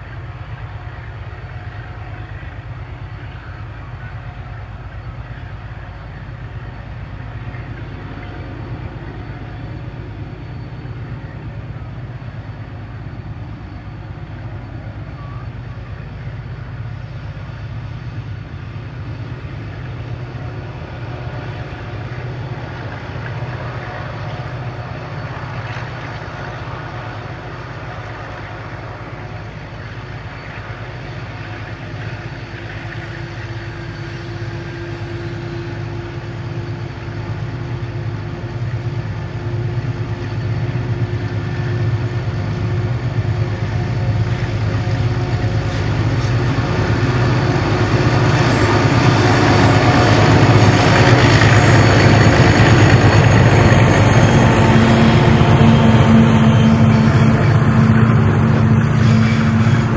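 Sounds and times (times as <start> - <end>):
locomotive engines droning: 0.0 - 59.9.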